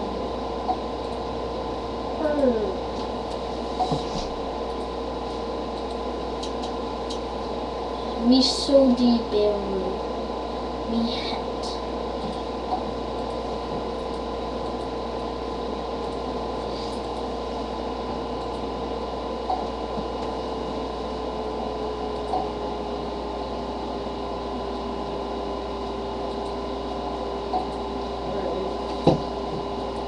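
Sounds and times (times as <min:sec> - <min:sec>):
faint whine: 0:00.0 - 0:30.0
machine hum and hiss: 0:00.0 - 0:30.0.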